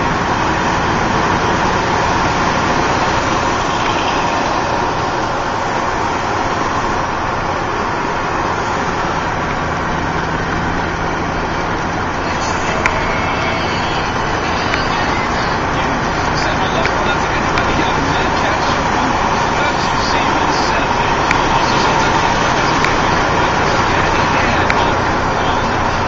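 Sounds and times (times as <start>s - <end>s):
truck engine and road drone: 0.0s - 26.0s.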